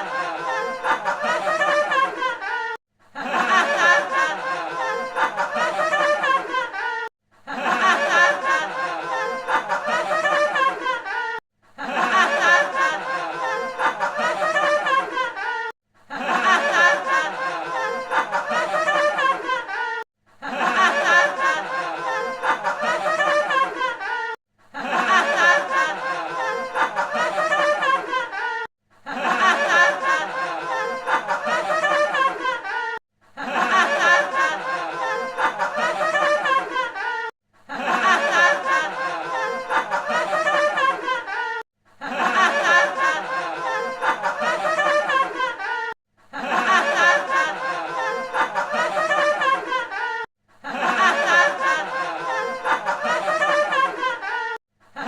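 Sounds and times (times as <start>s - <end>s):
group of people laughing: 0.0s - 55.0s
people giggling: 0.0s - 55.0s.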